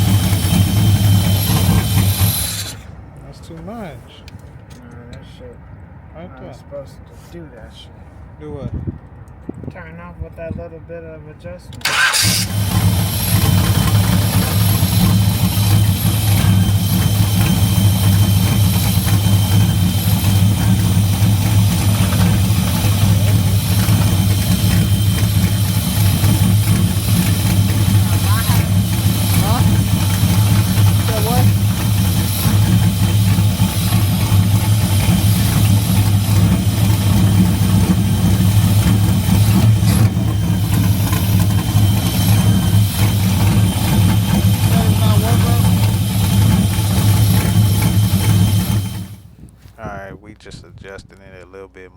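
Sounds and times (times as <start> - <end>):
car engine idling unevenly: 0.0 - 5.7, 11.7 - 49.6.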